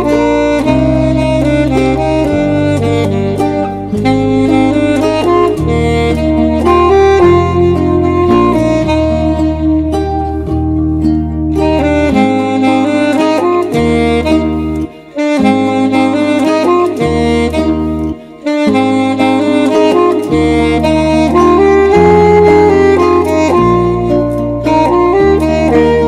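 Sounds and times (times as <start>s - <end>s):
backing track with bass line: 0.0s - 26.0s
saxophone slow melody: 0.0s - 26.0s.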